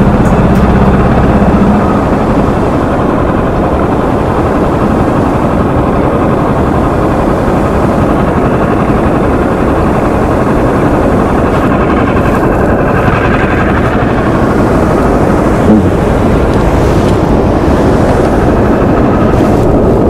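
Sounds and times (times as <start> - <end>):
loud engine running: 0.0 - 20.0
rushing noise: 0.0 - 20.0.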